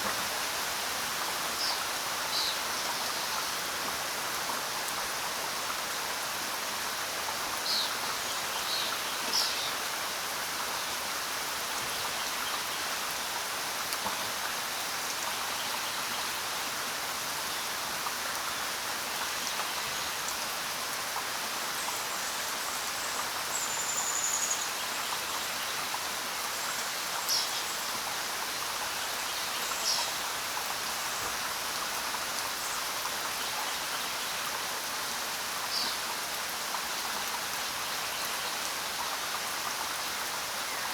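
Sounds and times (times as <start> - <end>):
rain and running water: 0.0 - 40.9.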